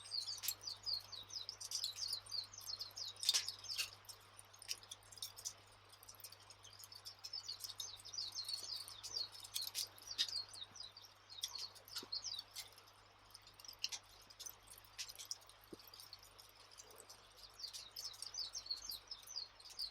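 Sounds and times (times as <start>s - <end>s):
small birds twittering: 0.0s - 19.9s.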